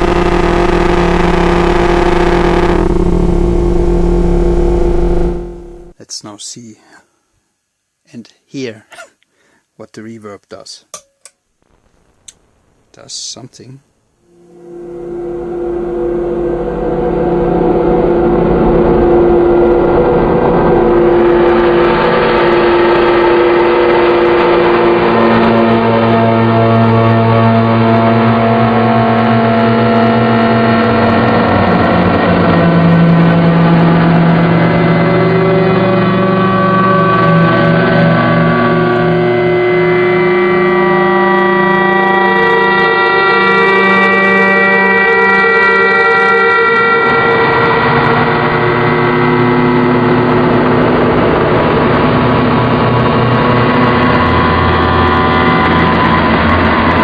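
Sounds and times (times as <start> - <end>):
synth drone with noise: 0.0 - 6.0, 14.3 - 57.0.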